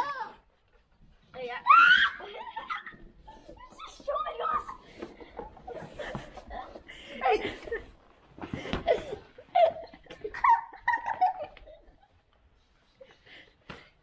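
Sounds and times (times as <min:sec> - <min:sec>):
children laughing: 0:01.7 - 0:13.4.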